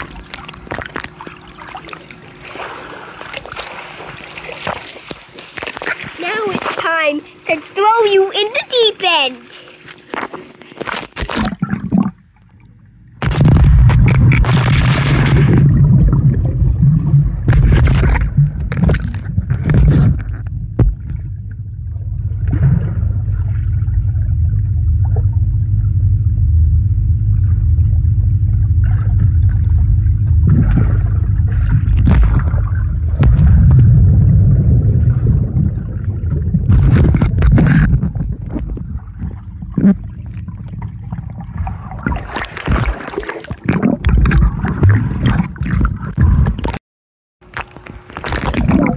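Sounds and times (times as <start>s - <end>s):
muffled underwater rumble: 0.0s - 2.4s, 5.6s - 46.8s, 47.5s - 48.9s
water bubbling and splashing: 0.0s - 26.0s, 27.1s - 46.8s, 47.5s - 48.9s
faint steady hum: 0.0s - 46.8s.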